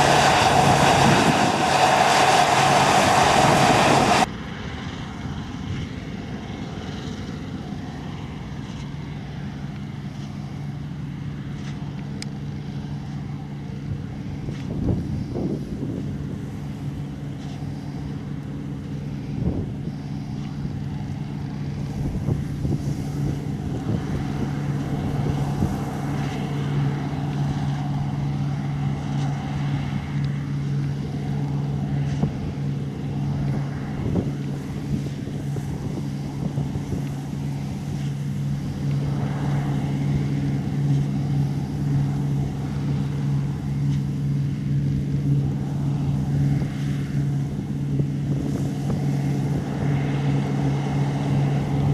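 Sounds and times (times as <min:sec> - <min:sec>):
large diesel engine running: 0:00.0 - 0:51.9
wind noise on microphone: 0:00.0 - 0:51.9.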